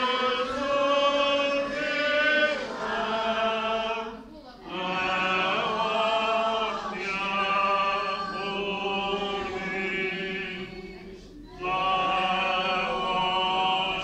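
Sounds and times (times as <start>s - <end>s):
voices singing slow hymn: 0.0s - 14.0s.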